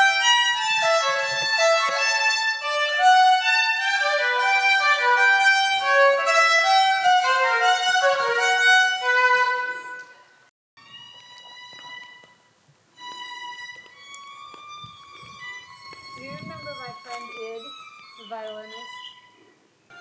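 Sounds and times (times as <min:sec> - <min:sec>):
violin melody: 0:00.0 - 0:20.0.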